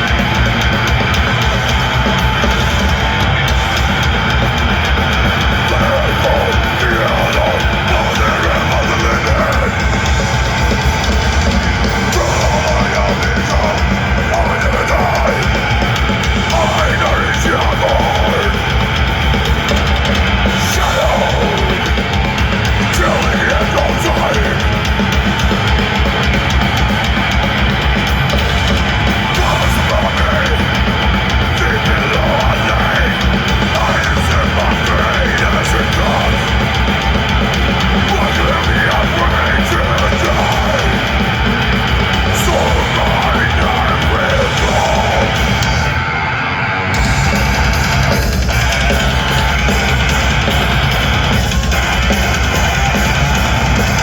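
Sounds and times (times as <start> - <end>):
shouted vocals: 0.0 - 19.0, 20.0 - 54.0
distorted guitars: 0.0 - 54.0
fast dense drumming: 0.0 - 54.0.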